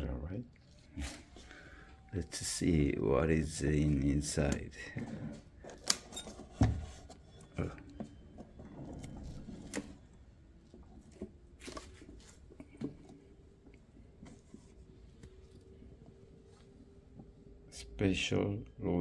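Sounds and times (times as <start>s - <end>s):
soft handling noise: 0.5s - 17.7s.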